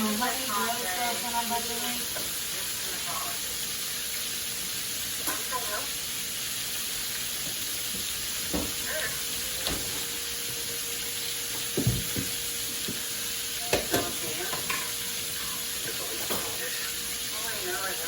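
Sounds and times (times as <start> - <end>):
pan sizzling: 0.0 - 18.0.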